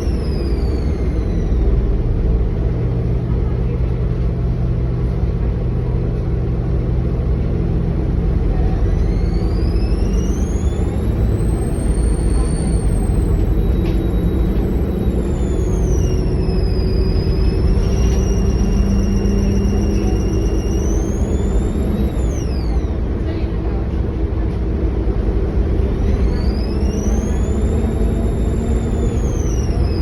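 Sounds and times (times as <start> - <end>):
high-pitched turbo whine: 0.0 - 4.3, 8.0 - 30.0
bus diesel engine rumble: 0.0 - 30.0.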